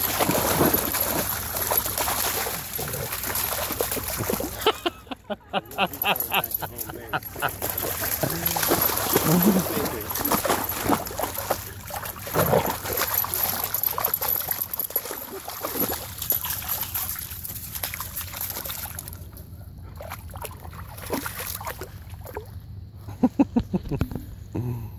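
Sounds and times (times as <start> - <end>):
dogs' paws splashing in water: 0.0 - 5.1, 5.7 - 22.6.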